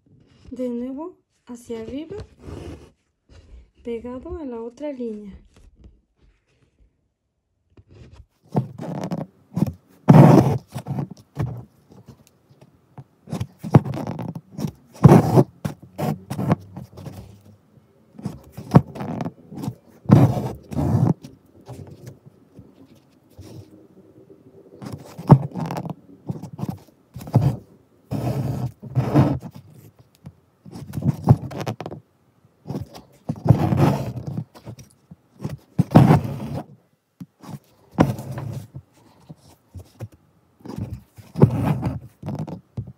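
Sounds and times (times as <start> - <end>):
needle and thread through fabric: 0.0 - 6.9, 7.7 - 23.8, 24.7 - 32.0, 32.6 - 42.9
fingers handling cloth: 7.7 - 42.9.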